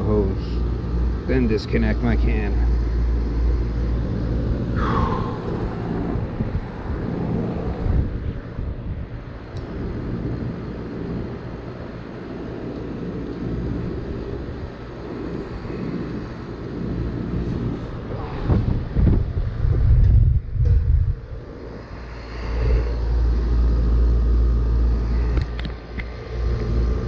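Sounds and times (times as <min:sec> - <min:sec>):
air conditioner unit humming: 0:00.0 - 0:27.0.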